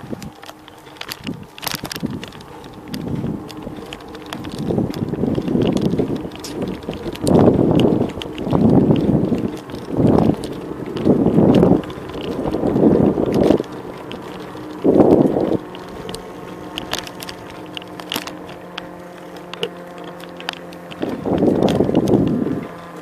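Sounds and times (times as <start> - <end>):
light ticking: 0.0 - 23.0
steady hum: 0.0 - 23.0
wind buffeting microphone: 0.0 - 23.0.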